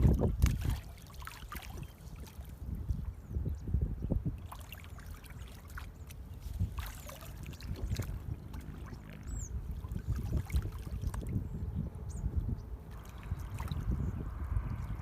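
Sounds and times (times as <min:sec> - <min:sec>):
water sloshing and splashing: 0:00.0 - 0:03.3, 0:04.2 - 0:11.6, 0:12.8 - 0:15.0.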